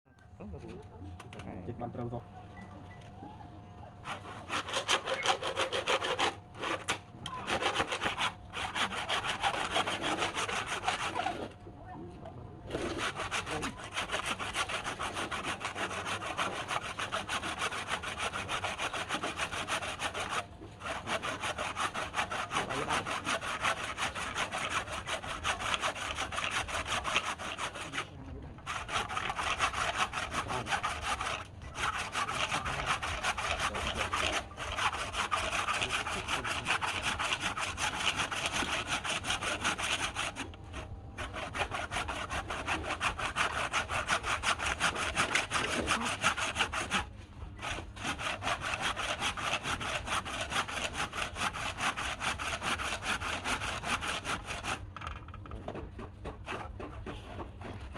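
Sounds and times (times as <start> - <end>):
tool rasping into wood: 4.0 - 11.6, 12.7 - 57.9.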